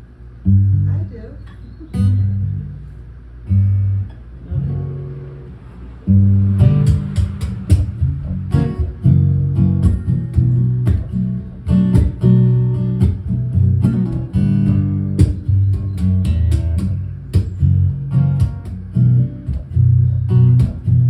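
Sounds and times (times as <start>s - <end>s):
guitar strumming and picking: 3.5s - 21.0s.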